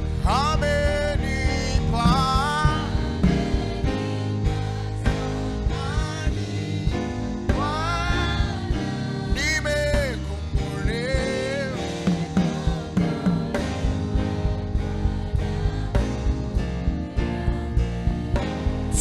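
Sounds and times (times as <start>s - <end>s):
instrumental band: 0.0s - 19.0s
voices singing gospel: 0.0s - 19.0s.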